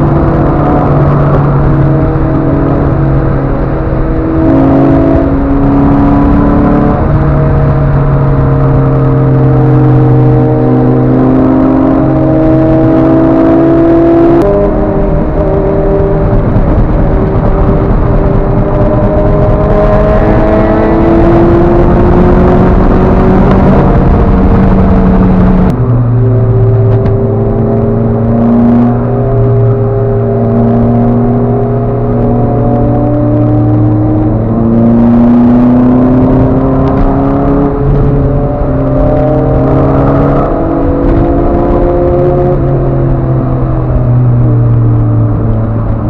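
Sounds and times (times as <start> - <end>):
car engines accelerating hard: 0.0 - 46.0.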